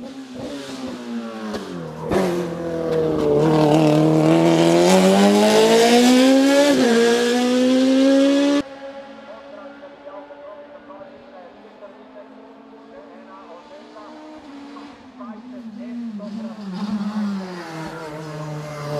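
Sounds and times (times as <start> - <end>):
race car engine revving: 0.0 - 18.9.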